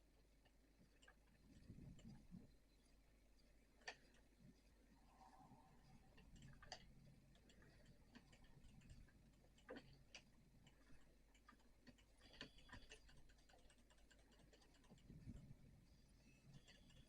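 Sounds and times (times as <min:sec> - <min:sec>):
faint ticks and clicks: 0:00.0 - 0:17.0.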